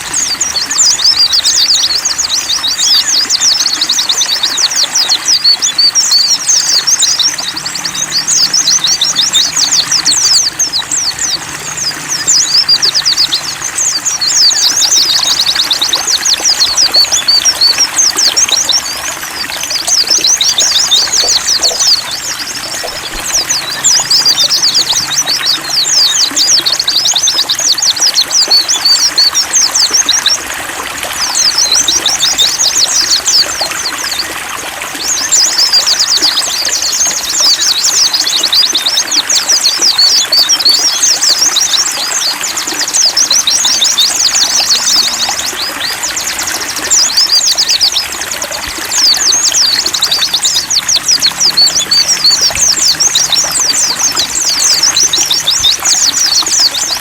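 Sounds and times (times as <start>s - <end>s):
birds twittering warble: 0.0s - 57.0s
water trickling: 0.0s - 57.0s.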